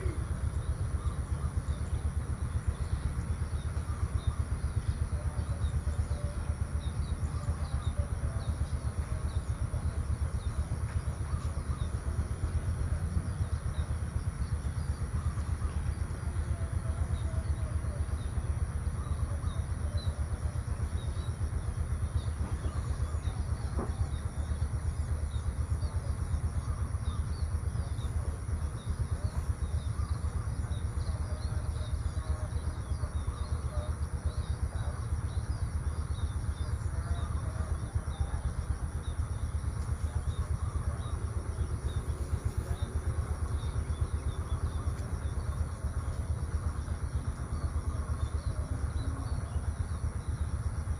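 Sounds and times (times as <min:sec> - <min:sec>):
faint bird chirps: 0:00.0 - 0:50.9
steady low rumble: 0:00.0 - 0:50.9.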